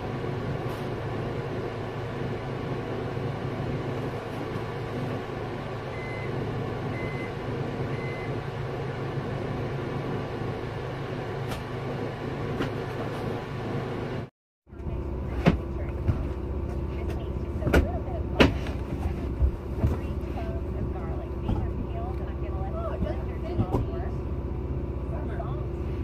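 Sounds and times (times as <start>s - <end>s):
vehicle droning: 0.0s - 26.0s.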